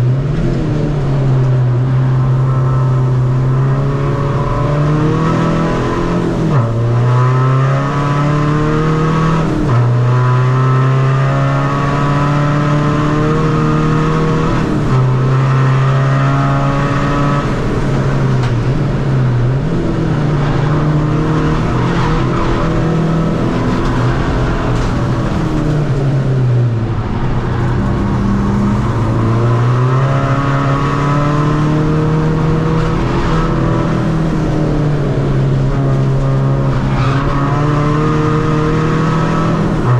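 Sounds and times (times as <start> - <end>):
diesel car engine revving: 0.0 - 39.9.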